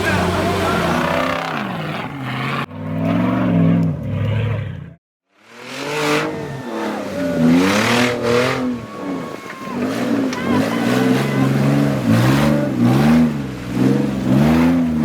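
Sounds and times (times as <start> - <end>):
off-road engines revving: 0.0 - 15.0.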